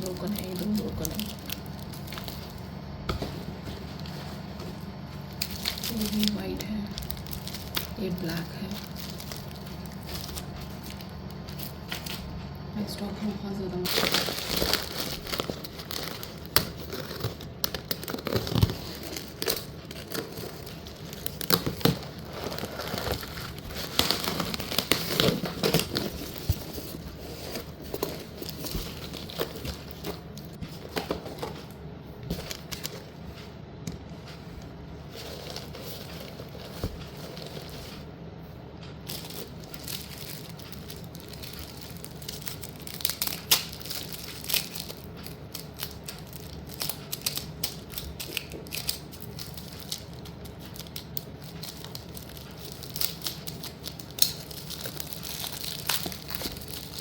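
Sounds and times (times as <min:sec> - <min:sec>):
packaging crinkling and tearing: 0:00.0 - 0:12.7, 0:13.8 - 0:31.7, 0:32.3 - 0:33.2, 0:34.4 - 0:38.1, 0:39.0 - 0:57.0.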